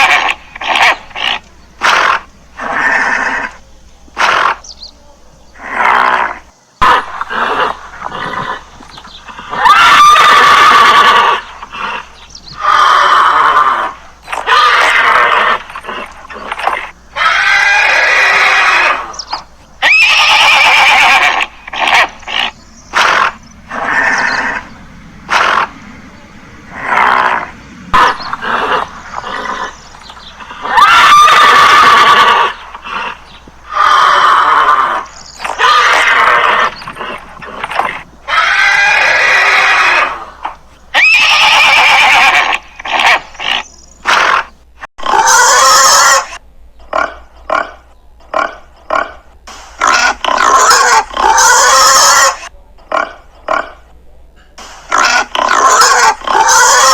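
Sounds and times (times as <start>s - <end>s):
horse neighing: 0.0s - 3.6s, 5.6s - 46.4s, 55.0s - 56.9s
loud animal calls: 0.0s - 53.9s, 54.6s - 56.9s.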